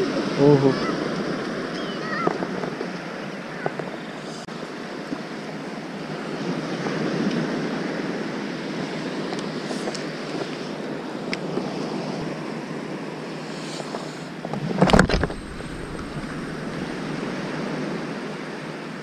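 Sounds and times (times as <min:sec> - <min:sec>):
waves washing up a beach: 0:00.0 - 0:19.0.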